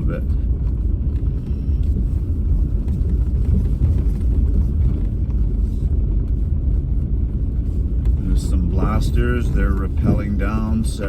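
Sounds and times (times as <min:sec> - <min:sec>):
car cabin rumble on gravel road: 0:00.0 - 0:11.0.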